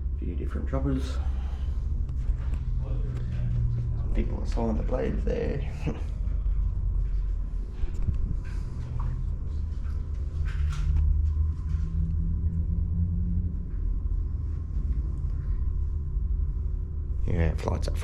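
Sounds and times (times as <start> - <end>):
low unsteady rumble: 0.0 - 18.0.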